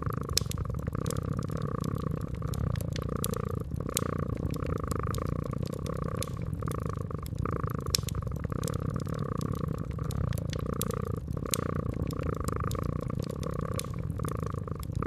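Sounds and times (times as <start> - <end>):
cat purring: 0.0 - 15.0
fireplace crackling and popping: 0.0 - 15.0.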